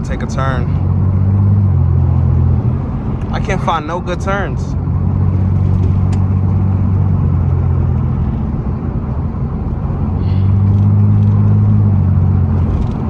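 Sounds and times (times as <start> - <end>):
car exhaust while driving: 0.0 - 13.0.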